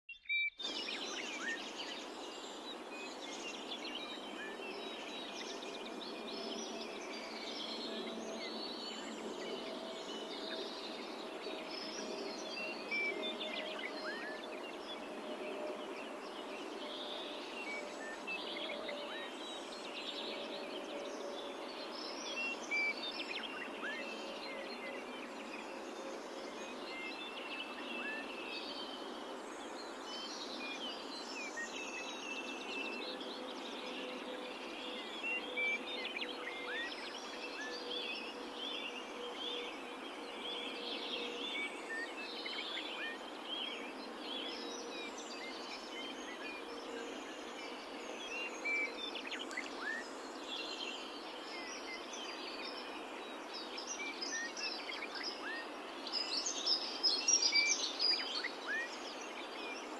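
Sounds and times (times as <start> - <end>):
small birds chirping: 0.1 - 59.9.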